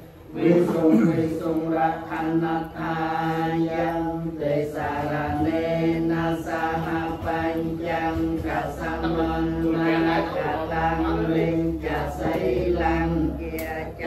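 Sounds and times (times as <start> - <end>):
men chanting in monotone: 0.3 - 14.0.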